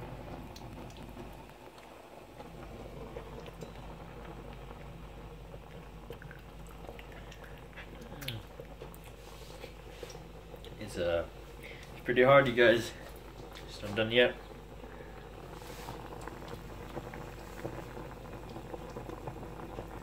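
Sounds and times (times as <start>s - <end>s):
water boiling and bubbling: 0.0s - 20.0s.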